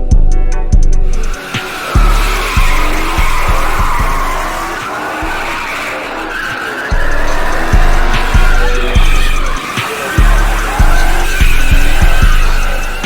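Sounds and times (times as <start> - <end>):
music with heavy bass beat: 0.0 - 13.0
car tires squealing: 1.0 - 13.0.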